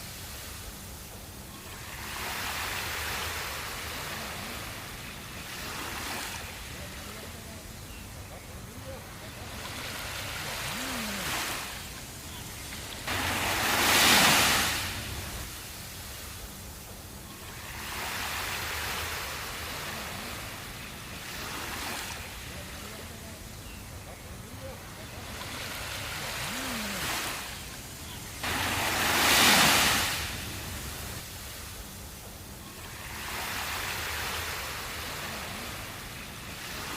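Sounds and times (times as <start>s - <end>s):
waves breaking on a beach: 0.0s - 36.9s.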